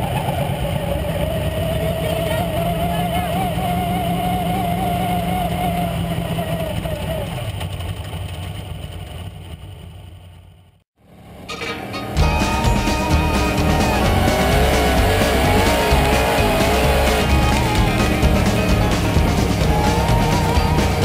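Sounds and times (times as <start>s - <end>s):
race car engine running: 0.0s - 21.0s.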